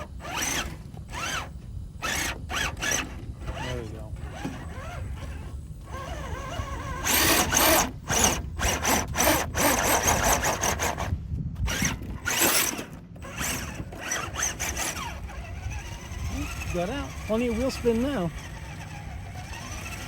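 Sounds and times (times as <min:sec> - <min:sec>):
electric motor whining: 0:00.0 - 0:20.0
tires spinning in loose dirt: 0:00.0 - 0:20.0.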